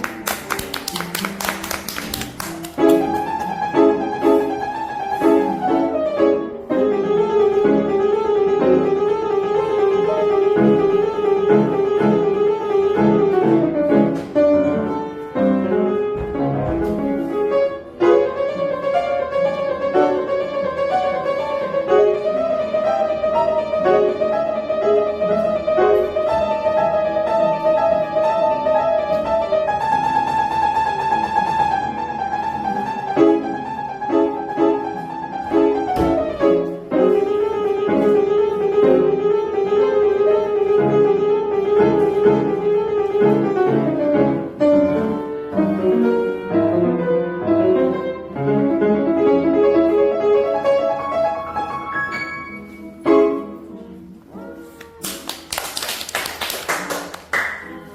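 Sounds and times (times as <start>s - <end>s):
piano music: 0.0s - 57.9s.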